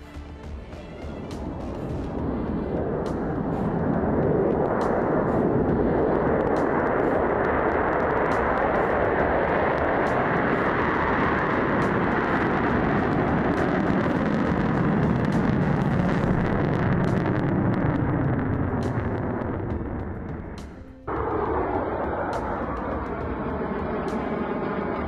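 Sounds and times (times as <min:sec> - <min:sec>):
jet engine exhaust roar: 0:00.0 - 0:25.0.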